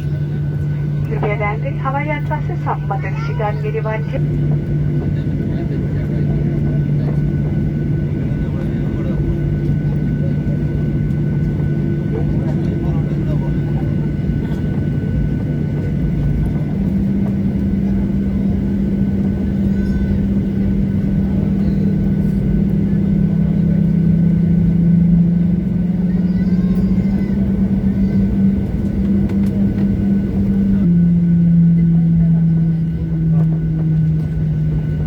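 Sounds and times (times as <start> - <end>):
jet engines droning in cabin: 0.0 - 35.0.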